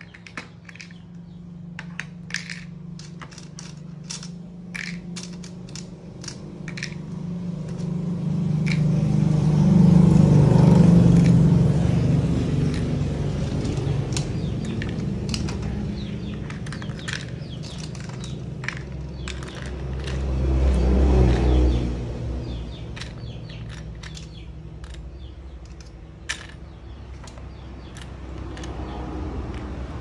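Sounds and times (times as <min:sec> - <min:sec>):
plastic bricks clicking and clattering: 0:00.0 - 0:07.9, 0:08.5 - 0:09.0, 0:10.6 - 0:11.5, 0:12.5 - 0:21.8, 0:22.8 - 0:29.8.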